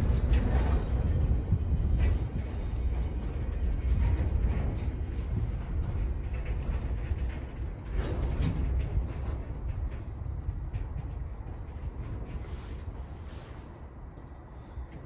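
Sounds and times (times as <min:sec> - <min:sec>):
clicks and clanks of train: 0:00.0 - 0:15.0
train wheels rumbling on rail: 0:00.0 - 0:15.0.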